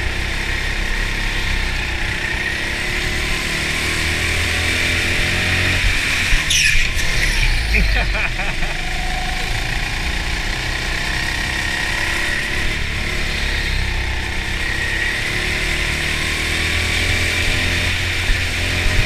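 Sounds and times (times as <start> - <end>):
go-kart motor whining: 0.0 - 19.0.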